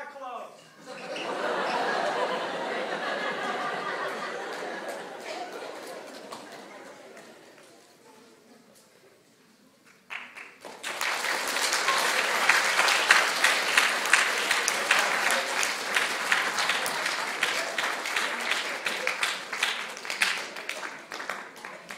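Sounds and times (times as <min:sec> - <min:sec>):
audience applauding: 0:01.2 - 0:08.0, 0:09.9 - 0:21.9.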